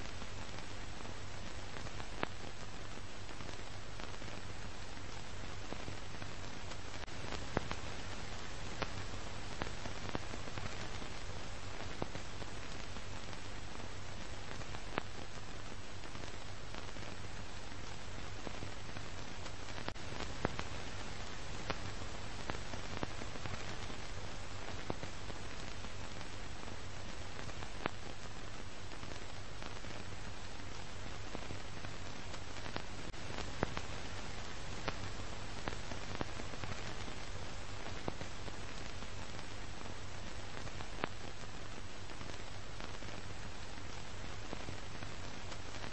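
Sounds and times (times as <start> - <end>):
faint crackles: 0.0 - 45.9
steady hiss: 0.0 - 45.9.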